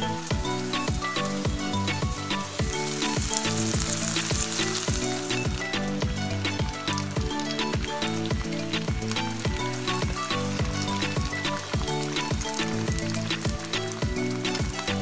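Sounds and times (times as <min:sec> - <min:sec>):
background music with steady beat: 0:00.0 - 0:15.0
vegetables and eggs sizzling: 0:00.0 - 0:15.0.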